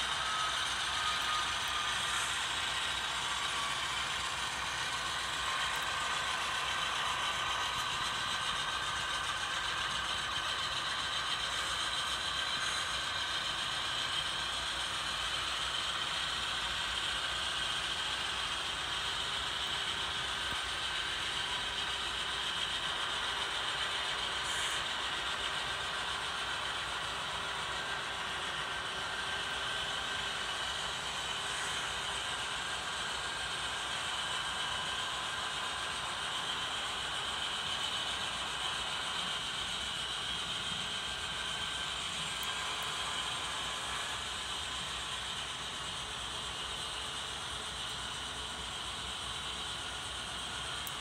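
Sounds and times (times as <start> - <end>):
model train wheels rolling on rail: 0.0 - 51.0.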